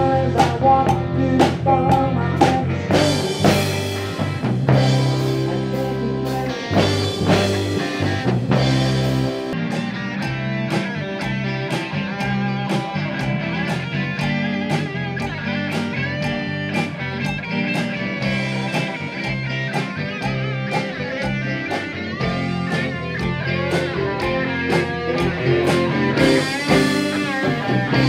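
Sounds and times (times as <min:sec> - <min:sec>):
blues-rock band playing: 0:00.0 - 0:28.0.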